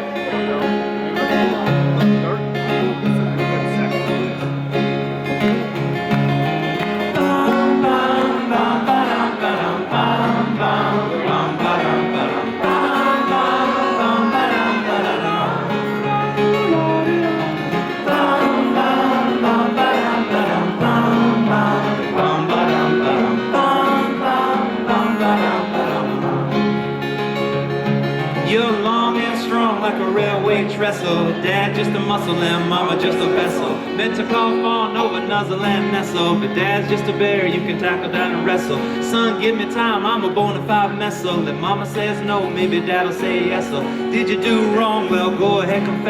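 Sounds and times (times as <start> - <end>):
band playing acoustic folk-rock: 0.0 - 46.0.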